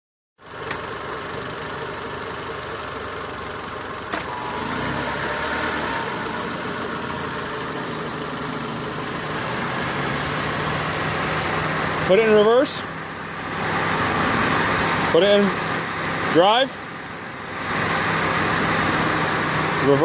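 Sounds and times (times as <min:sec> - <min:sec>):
car engine idling: 0:00.4 - 0:20.0.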